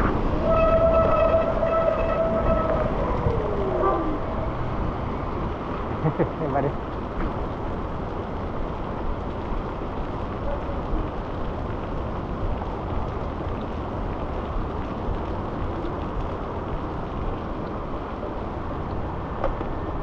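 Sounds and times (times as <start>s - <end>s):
bicycle on wet street: 0.0s - 20.0s
rain rushing: 0.0s - 20.0s.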